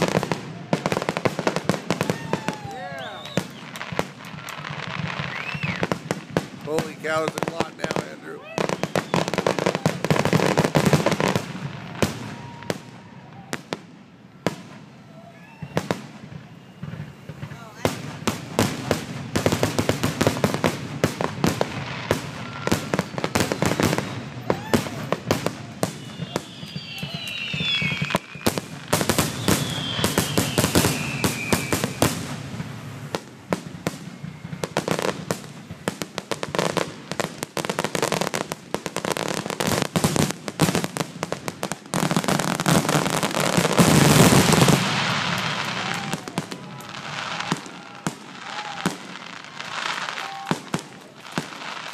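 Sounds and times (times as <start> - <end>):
falling firework whistles: 0.0 - 37.0, 41.9 - 51.9
firework crackle: 0.0 - 51.9.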